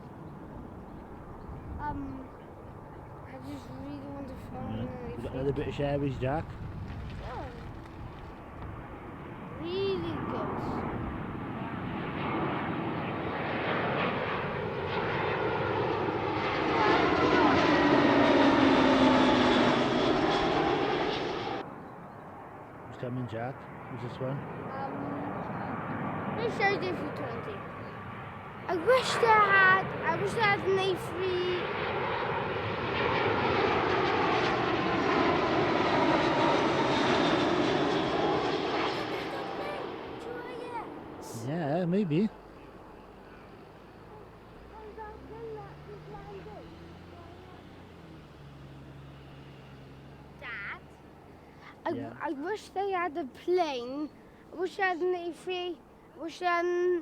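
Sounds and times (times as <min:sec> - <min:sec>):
low falling whine: 0:00.0 - 0:22.4, 0:24.1 - 0:52.4
jet airliner engine noise: 0:00.0 - 0:57.0.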